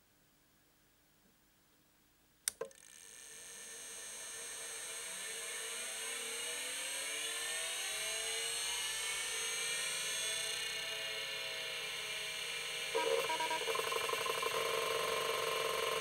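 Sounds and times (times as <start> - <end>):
hard drive motor spinning up: 2.8 - 16.0.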